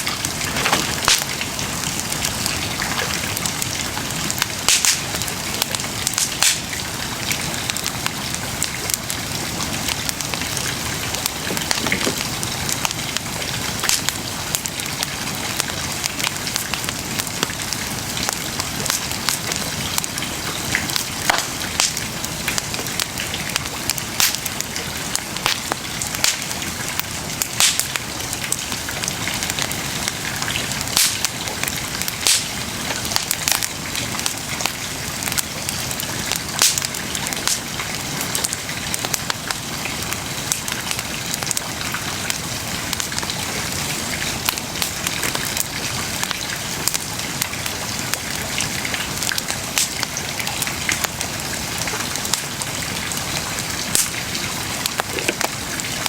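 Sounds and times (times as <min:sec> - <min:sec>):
burning wood crackling and popping: 0:00.0 - 0:56.0.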